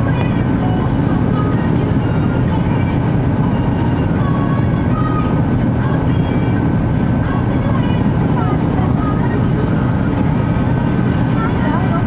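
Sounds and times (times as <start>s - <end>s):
jet engines in cabin: 0.0s - 12.0s
rushing airflow: 0.0s - 12.0s.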